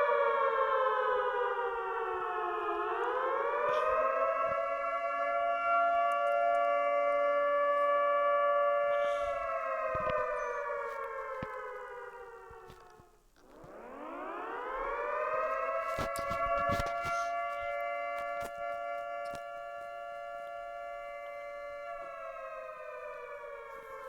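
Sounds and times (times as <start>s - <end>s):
siren wailing: 0.0s - 24.0s.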